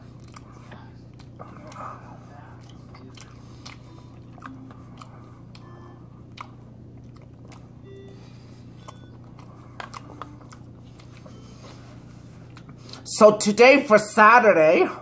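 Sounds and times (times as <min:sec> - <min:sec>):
person chewing: 0:00.0 - 0:13.0
steady low hum: 0:00.0 - 0:15.0.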